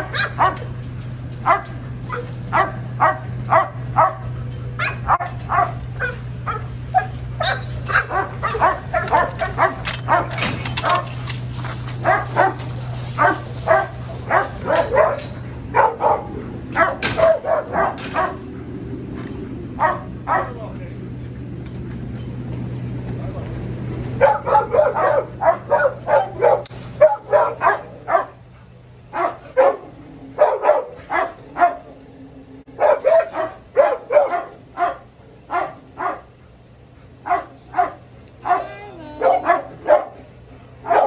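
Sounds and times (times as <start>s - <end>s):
dogs barking: 0.0s - 0.8s, 1.4s - 20.7s, 24.1s - 32.0s, 32.7s - 41.0s
steady low hum: 0.0s - 41.0s.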